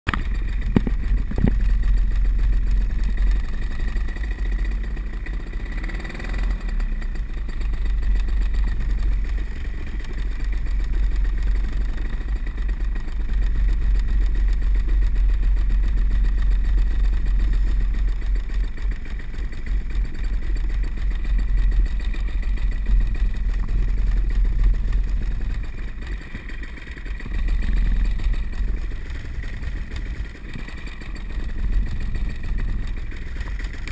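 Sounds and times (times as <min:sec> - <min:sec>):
paramotor engine running: 0:00.1 - 0:33.9.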